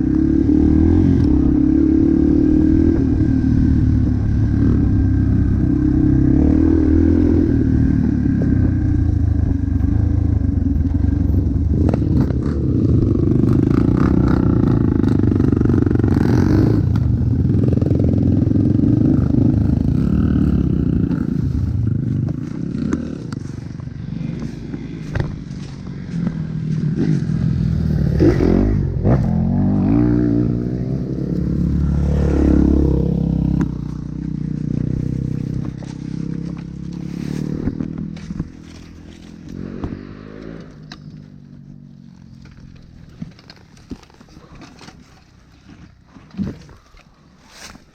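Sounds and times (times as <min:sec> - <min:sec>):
dirt bike engine revving: 0:00.0 - 0:41.2.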